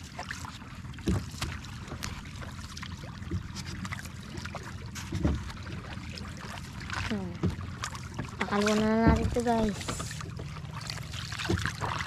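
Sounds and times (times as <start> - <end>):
steady low rumble: 0.0 - 12.0
water sloshing against boat hull: 0.0 - 12.0.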